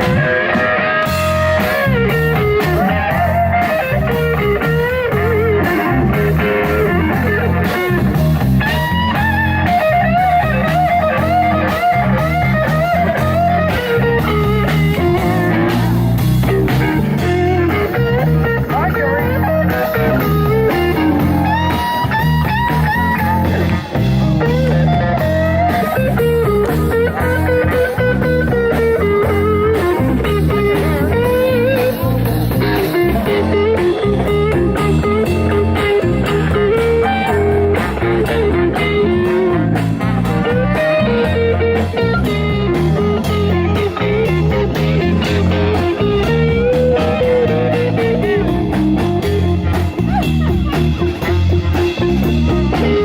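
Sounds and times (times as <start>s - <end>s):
blues band playing: 0.0s - 53.0s
electric guitar bending notes: 0.0s - 53.0s.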